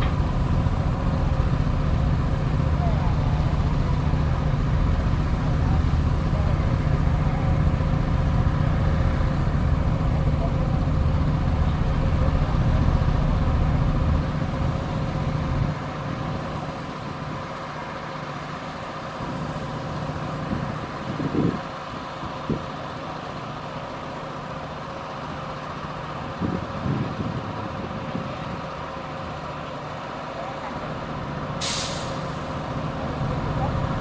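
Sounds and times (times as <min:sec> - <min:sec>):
bulldozer diesel engine: 0:00.0 - 0:34.0.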